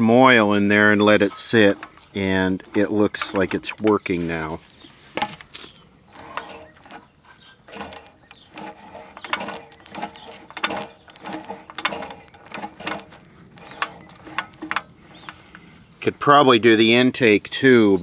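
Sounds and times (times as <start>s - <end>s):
engine turned over by hand clicking: 0.3s - 15.8s.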